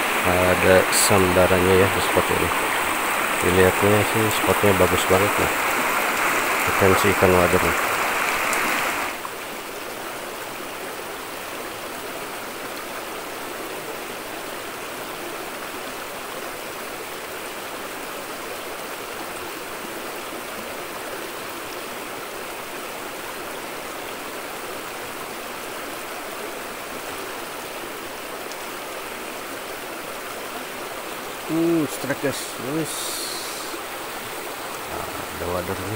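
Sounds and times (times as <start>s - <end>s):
river rushing over stones: 0.0s - 35.9s.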